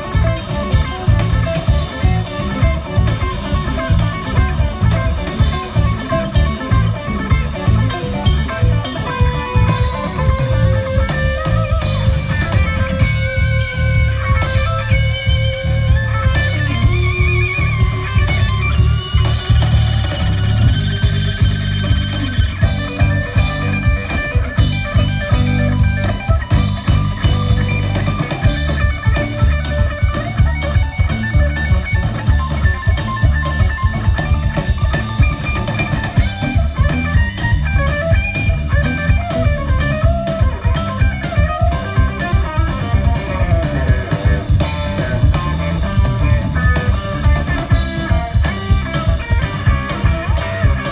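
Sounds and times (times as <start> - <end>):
bass guitar: 0.0 - 50.9
drum kit steady beat: 0.0 - 50.9
electric guitar lead: 0.0 - 50.9.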